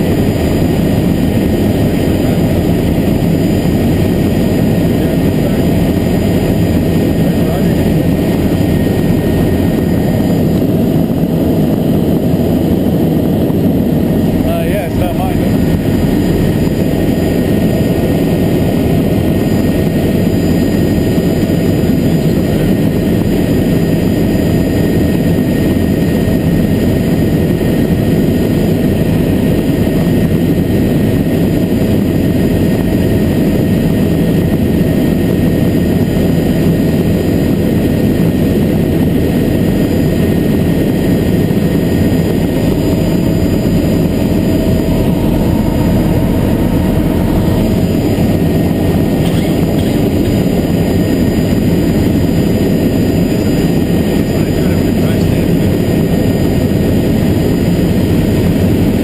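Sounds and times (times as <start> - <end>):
faint steady whine: 0.0 - 59.0
helicopter engine and rotor noise: 0.0 - 59.0.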